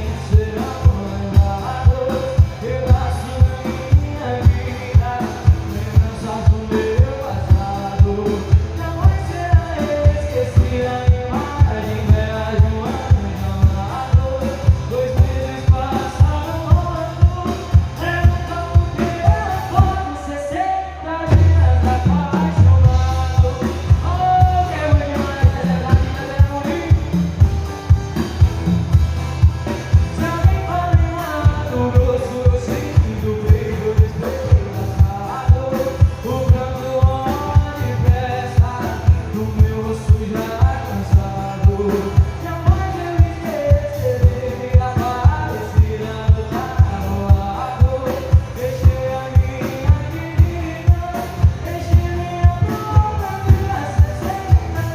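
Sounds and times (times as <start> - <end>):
band accompaniment: 0.0 - 54.9
man singing: 0.0 - 54.9.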